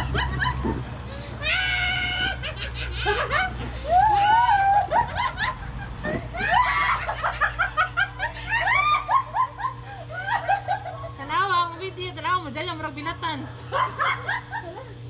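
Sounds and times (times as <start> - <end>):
people laughing: 0.0 - 11.4, 13.4 - 15.0
steady low hum: 0.0 - 15.0.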